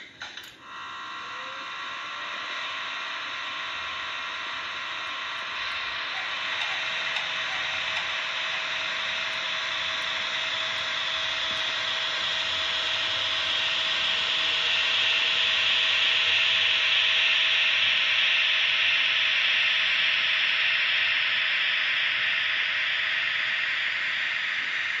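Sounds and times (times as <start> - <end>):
faint motor whine: 0.0 - 25.0
model train running on track: 0.2 - 25.0.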